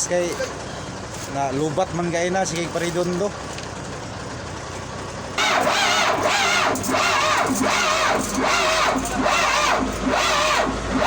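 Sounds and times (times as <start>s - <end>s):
starter motor cranking diesel engine: 0.0s - 11.0s.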